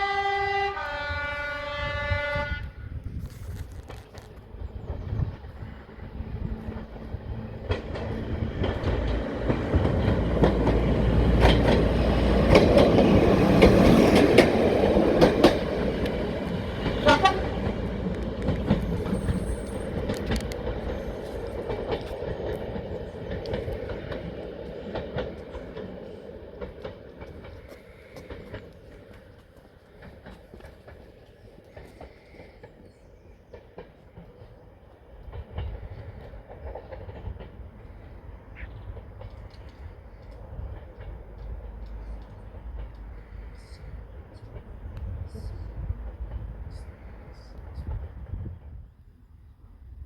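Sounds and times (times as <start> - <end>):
diesel train engine rumble: 0.0 - 50.0
train wheels clicking over rail joints: 3.2 - 48.6.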